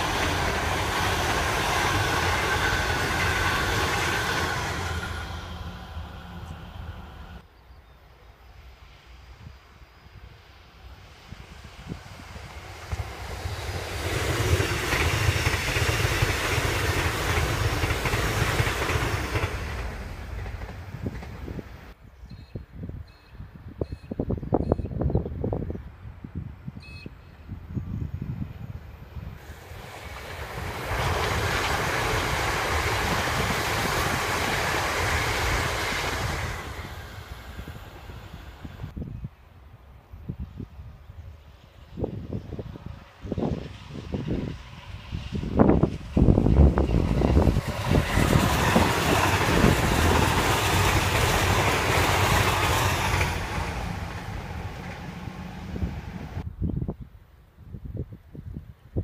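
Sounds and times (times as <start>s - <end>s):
electric train passing: 0.0s - 22.0s, 27.2s - 56.5s
wind buffeting microphone: 11.0s - 59.0s.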